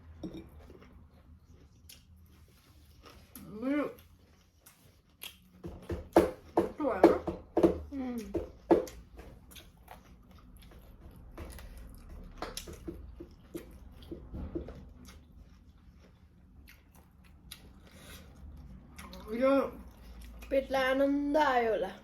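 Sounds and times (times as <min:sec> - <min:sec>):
food being bitten and chewed: 0:00.0 - 0:06.6, 0:08.2 - 0:20.6.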